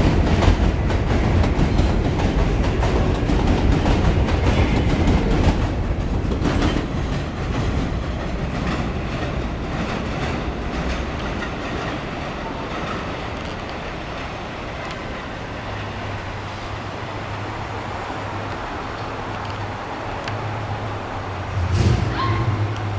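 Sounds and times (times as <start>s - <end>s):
subway train rumbling away: 0.0s - 22.9s
wheels clacking over rail joints: 0.0s - 22.9s.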